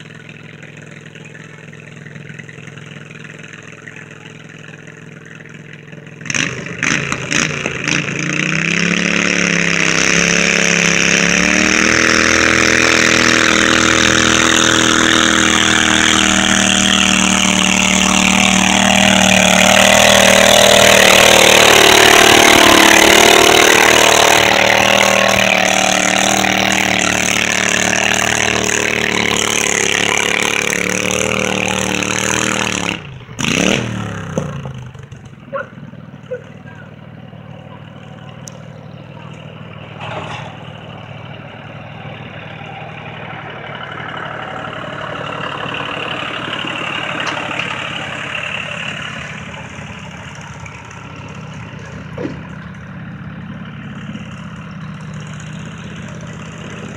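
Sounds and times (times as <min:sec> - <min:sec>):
garden tractor engine under load: 0:00.0 - 0:56.9.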